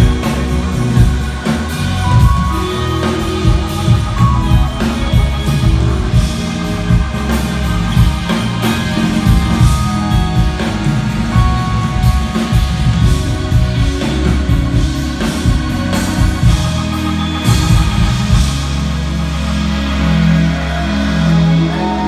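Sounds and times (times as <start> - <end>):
drum kit: 0.0 - 22.0
electric guitars: 0.0 - 22.0
keyboards: 0.0 - 22.0.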